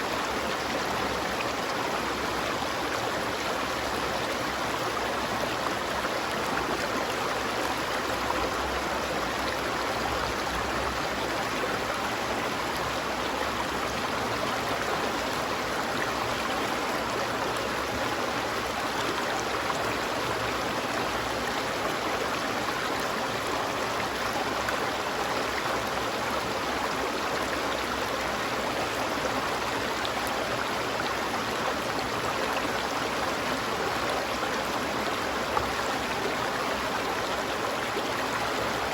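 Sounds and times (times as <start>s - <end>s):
stream water flowing over rocks: 0.0s - 38.9s.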